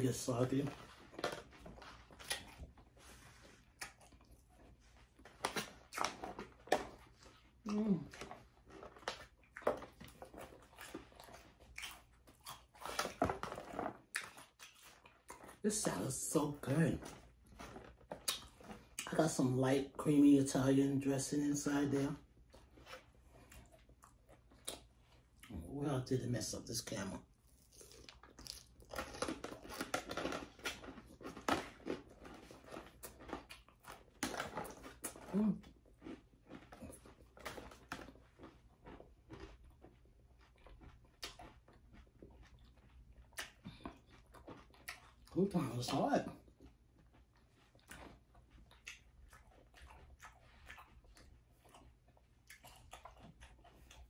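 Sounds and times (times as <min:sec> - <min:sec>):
crunching lettuce: 0:00.0 - 0:25.3, 0:26.8 - 0:54.0.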